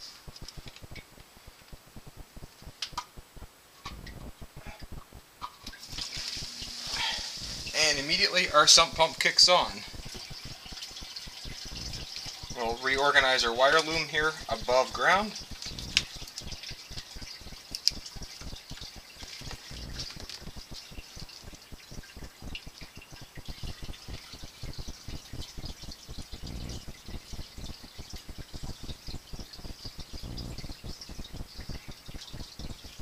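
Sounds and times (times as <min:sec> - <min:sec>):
water gurgling and splashing: 0:03.8 - 0:33.0
sump pump running: 0:05.7 - 0:33.0.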